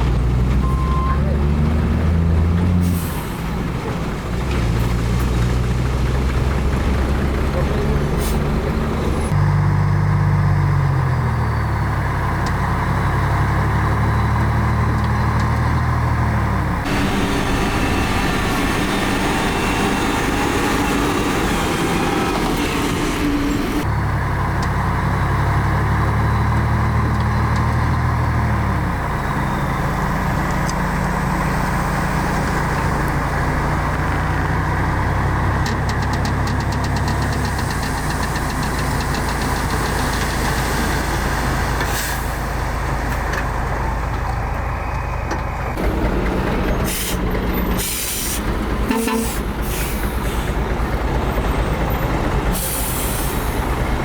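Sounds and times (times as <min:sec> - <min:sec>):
diesel machinery engine running: 0:00.0 - 0:54.0.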